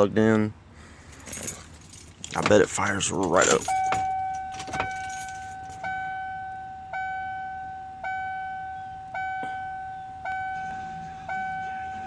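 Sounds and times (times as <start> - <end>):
dashboard warning chime: 1.3 - 12.0.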